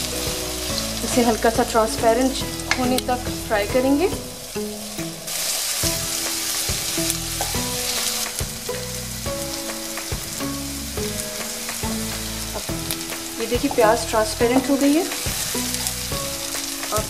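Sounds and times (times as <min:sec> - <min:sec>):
instrumental background music: 0:00.0 - 0:17.0
onions sizzling in oil: 0:00.0 - 0:17.0.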